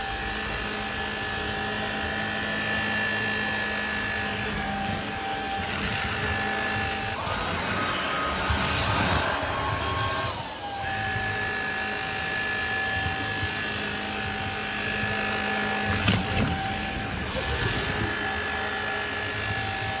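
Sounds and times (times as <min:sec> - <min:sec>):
vacuum cleaner motor whine: 0:00.0 - 0:20.0.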